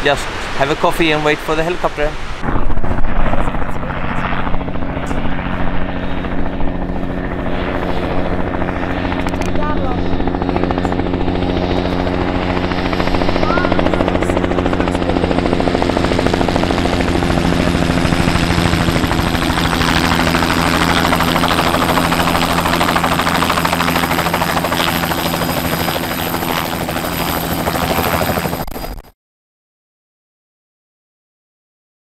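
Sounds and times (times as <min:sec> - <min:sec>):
helicopter rotor and engine: 0:00.0 - 0:29.1.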